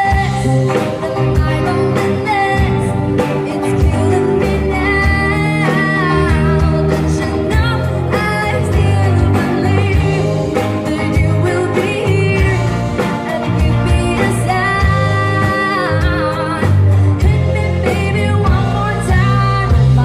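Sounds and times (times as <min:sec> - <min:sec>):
lead singer singing: 0:00.0 - 0:20.0
live band music: 0:00.0 - 0:20.0
pulsing bass line: 0:00.0 - 0:20.0.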